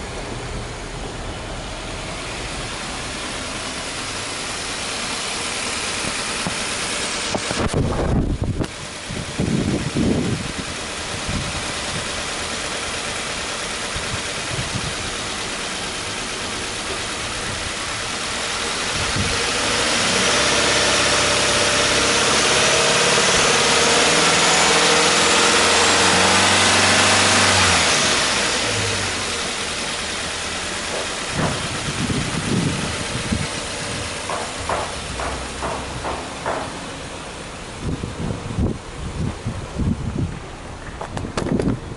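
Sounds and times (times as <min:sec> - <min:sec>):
car engine idling and revving: 0:00.0 - 0:41.9.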